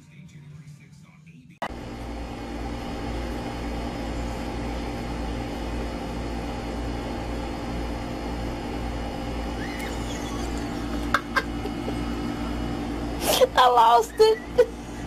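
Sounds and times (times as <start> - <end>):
low mechanical hum: 1.6 - 15.0.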